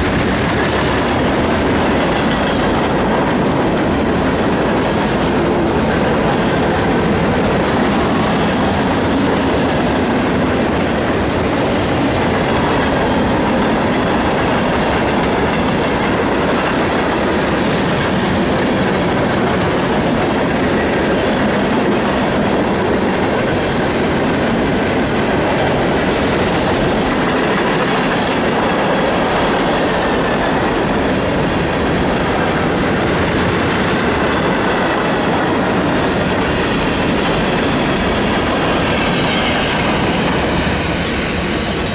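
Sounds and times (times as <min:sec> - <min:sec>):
freight train wheels rumbling on rails: 0:00.0 - 0:41.9.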